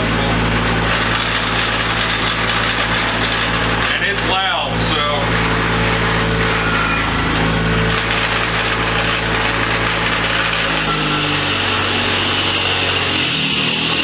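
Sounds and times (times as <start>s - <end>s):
power wire wheel scrubbing metal: 0.0s - 14.0s.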